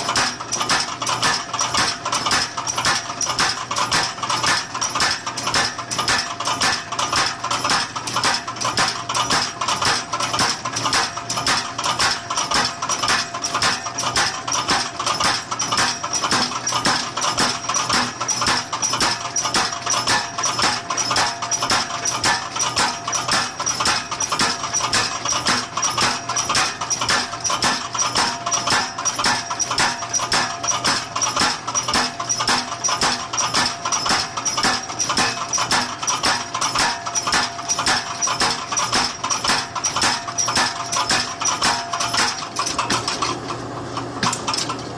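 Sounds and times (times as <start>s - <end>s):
power hammer striking metal: 0.0s - 43.5s, 44.2s - 44.9s.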